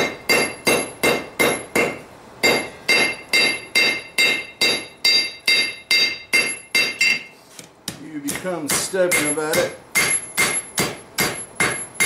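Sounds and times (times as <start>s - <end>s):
anvil ringing: 0.0s - 7.3s, 8.7s - 12.0s
hammer striking metal on anvil: 0.0s - 7.3s, 8.3s - 12.0s.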